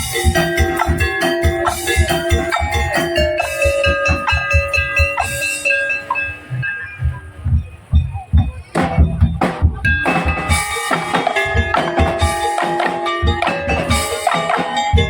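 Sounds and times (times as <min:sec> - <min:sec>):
drums and bamboo slit drums: 0:00.0 - 0:15.0
tuned percussion melody: 0:00.0 - 0:15.0.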